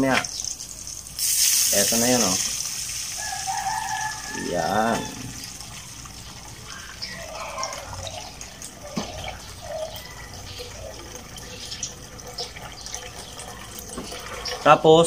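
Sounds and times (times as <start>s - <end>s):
broth pouring into hot oil: 0.0s - 15.0s.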